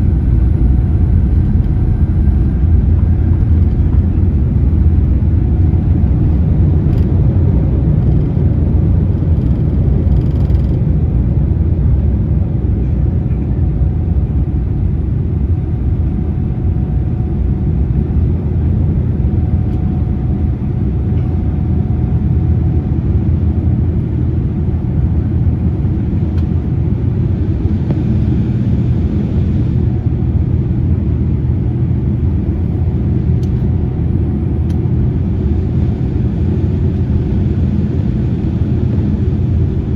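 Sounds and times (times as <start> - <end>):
airliner engine rumble in cabin: 0.0 - 39.9.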